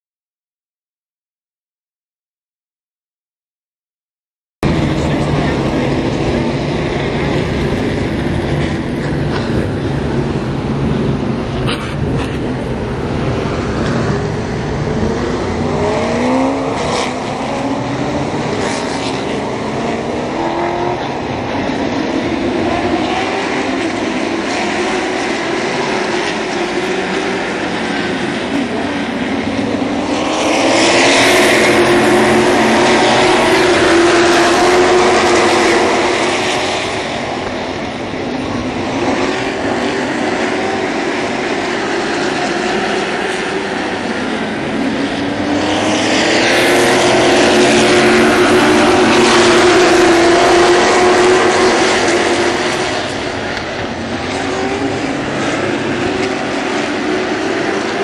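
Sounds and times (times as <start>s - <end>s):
race car engines passing by: 4.6s - 58.0s.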